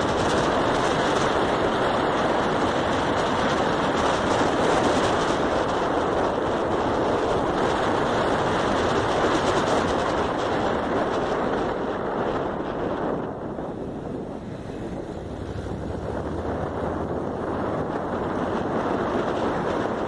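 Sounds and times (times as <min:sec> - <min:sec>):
motorcycle engine and road noise: 0:00.0 - 0:20.0
wind on microphone: 0:00.0 - 0:20.0.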